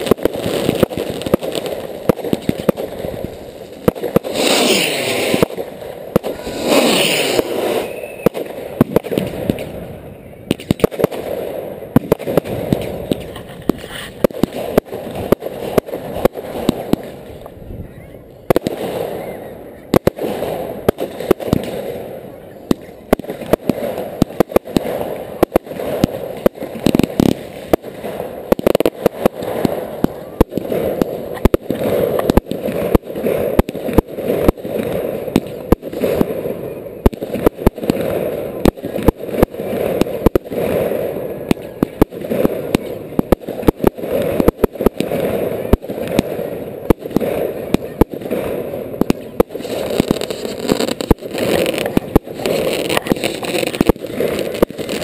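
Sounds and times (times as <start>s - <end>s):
fireworks bangs and cracks: 0.0s - 17.6s, 18.4s - 55.0s.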